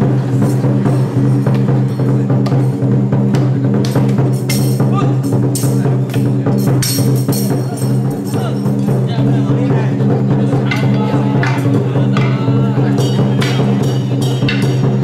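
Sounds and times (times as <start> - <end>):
cymbals clashing: 0.0 - 15.0
drums beating: 0.0 - 15.0.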